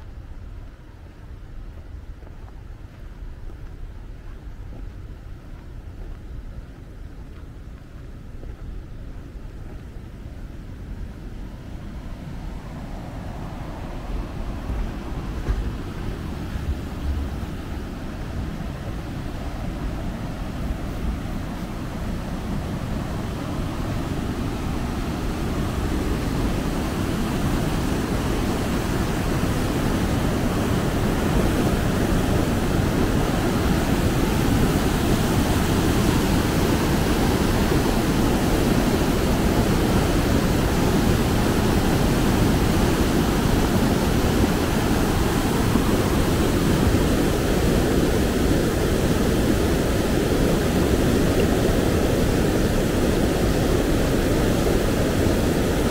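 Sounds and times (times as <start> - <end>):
river rushing over waterfall: 10.5 - 55.9.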